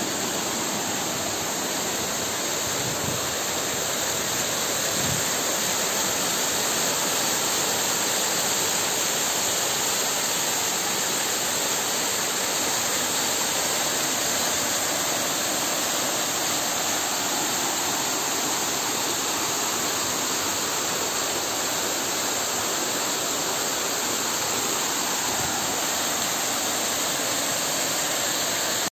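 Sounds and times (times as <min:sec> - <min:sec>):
waterfall splashing into pool: 0:00.0 - 0:28.9.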